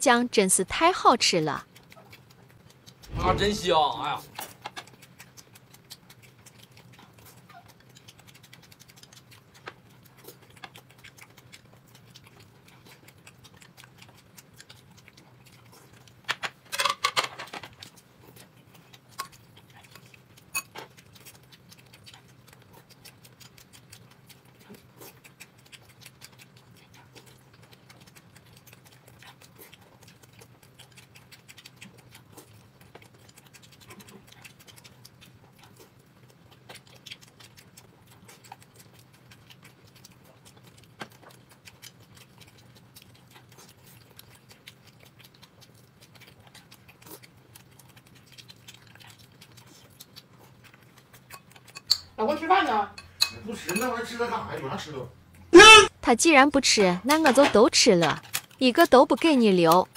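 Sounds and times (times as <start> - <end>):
person chewing: 1.6 - 3.4, 4.0 - 54.3, 56.8 - 59.9.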